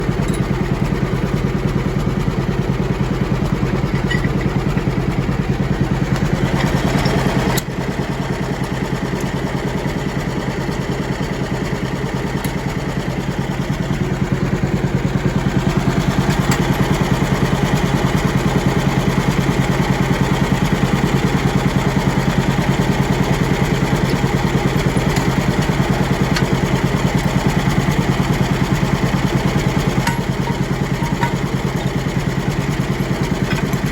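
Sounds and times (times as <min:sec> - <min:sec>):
tractor engine pulsing: 0:00.0 - 0:07.7, 0:12.2 - 0:33.9.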